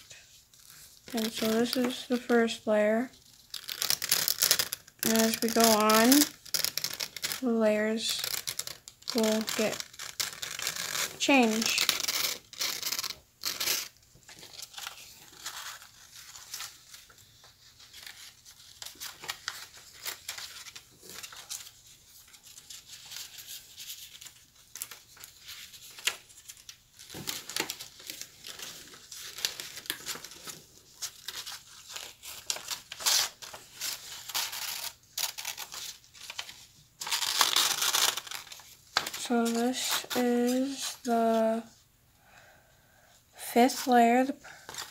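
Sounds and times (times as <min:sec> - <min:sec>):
paper rustling and crinkling: 0:00.0 - 0:41.8, 0:43.8 - 0:44.9.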